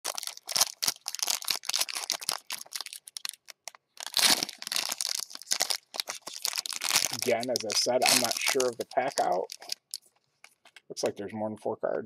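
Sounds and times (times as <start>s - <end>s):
foil wrapper crinkling: 0.0s - 10.8s.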